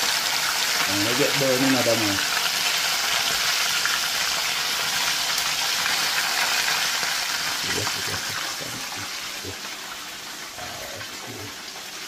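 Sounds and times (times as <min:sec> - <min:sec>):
fish deep-frying in hot oil: 0:00.0 - 0:12.0.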